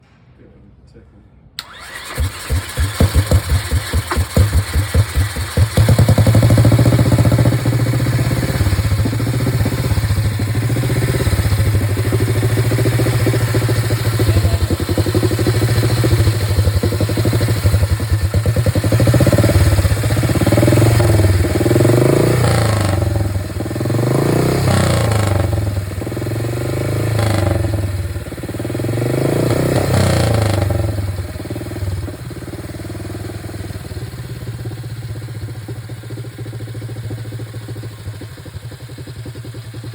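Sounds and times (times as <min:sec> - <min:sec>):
motorcycle engine revving: 0:01.6 - 0:39.9.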